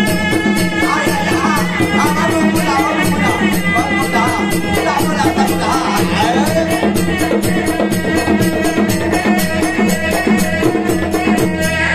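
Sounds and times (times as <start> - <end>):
hand drums and percussion beat: 0.0 - 11.9
shawm playing ornamented melody: 0.0 - 11.9.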